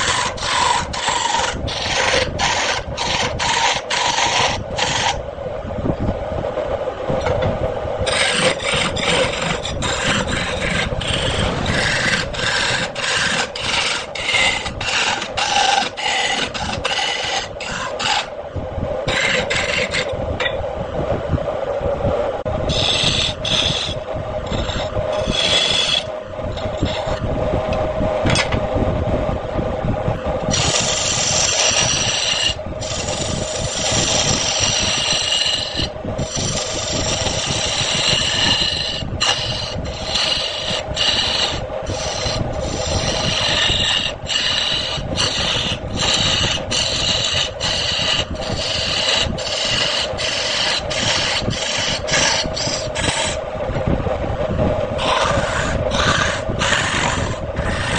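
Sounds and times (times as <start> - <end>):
hand tool scraping spinning wood: 0.0 - 5.2, 8.0 - 18.4, 19.0 - 20.6, 22.7 - 28.5, 30.5 - 53.4, 54.7 - 57.9
wood lathe humming: 0.0 - 5.3, 7.2 - 20.6, 22.4 - 28.1, 30.4 - 53.5, 54.7 - 57.9.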